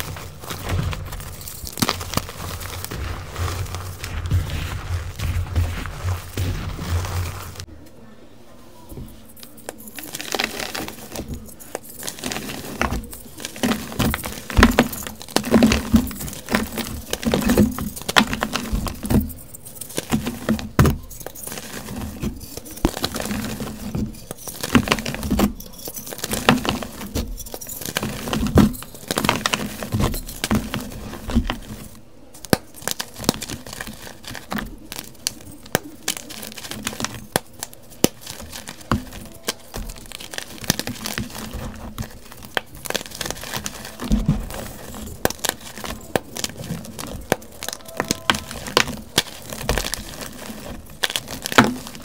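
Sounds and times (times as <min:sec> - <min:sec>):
hands crunching chalk blocks: 0:00.0 - 0:07.7, 0:08.9 - 0:52.0.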